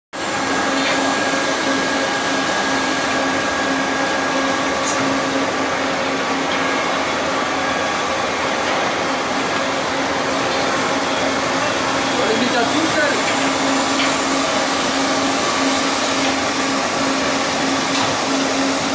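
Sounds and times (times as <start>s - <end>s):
lathe running with mechanical whir: 0.2s - 18.9s.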